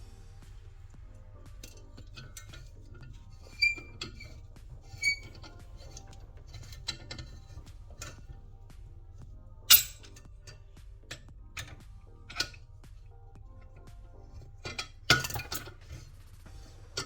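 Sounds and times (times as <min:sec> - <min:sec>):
background music: 0:00.0 - 0:17.0
metal clinks and taps: 0:01.4 - 0:16.0.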